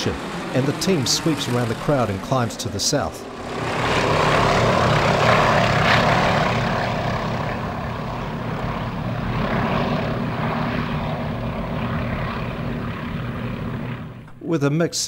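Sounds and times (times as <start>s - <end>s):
radial engines droning: 0.0s - 14.4s.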